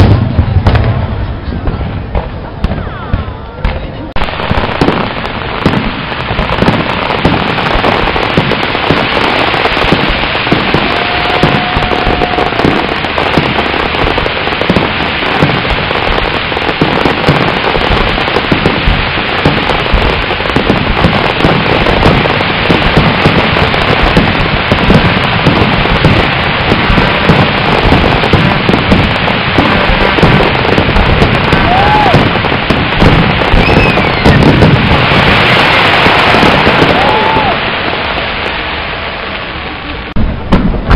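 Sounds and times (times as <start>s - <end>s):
fireworks crackling: 0.0s - 40.9s
low fireworks booms: 0.0s - 40.9s.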